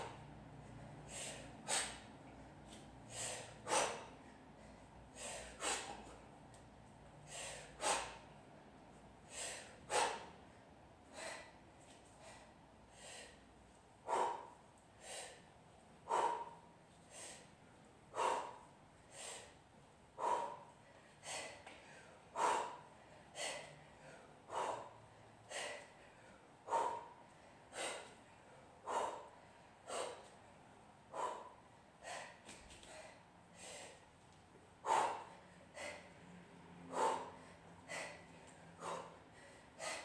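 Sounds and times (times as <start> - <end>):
woman breathing forcefully: 0.0 - 40.0.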